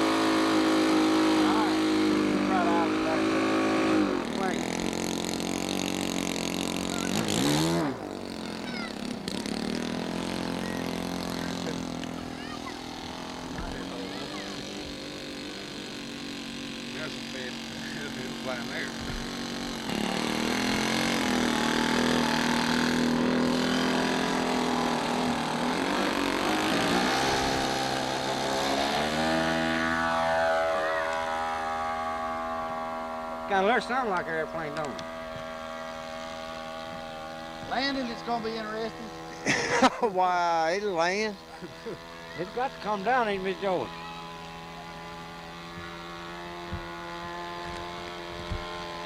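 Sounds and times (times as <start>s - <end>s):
model airplane engine running: 0.0s - 49.0s.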